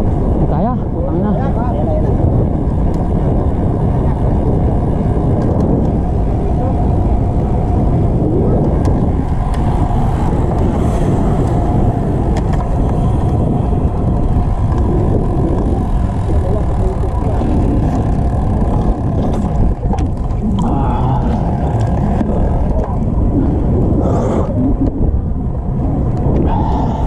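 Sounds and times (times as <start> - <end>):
low rumble of vehicles: 0.0 - 27.0.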